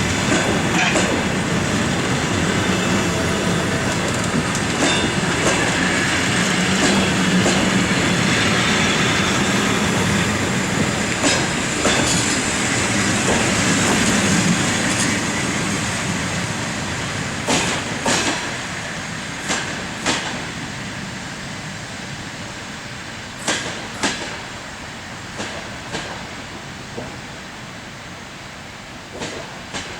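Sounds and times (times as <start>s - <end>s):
train wheels clicking over rail joints: 0.0s - 20.9s, 23.2s - 27.4s, 29.1s - 29.9s.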